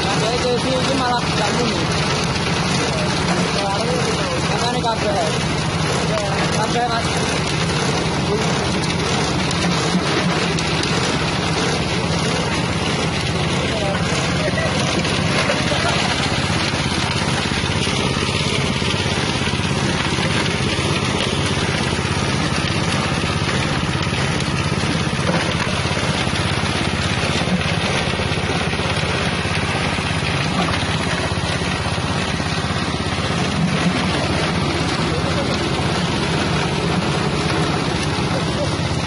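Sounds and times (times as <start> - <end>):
grinding machine engine running: 0.0 - 39.0.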